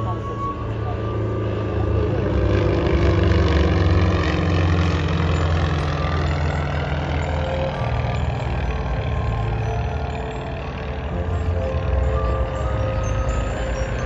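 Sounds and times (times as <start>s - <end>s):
plane flying past: 0.0s - 14.0s.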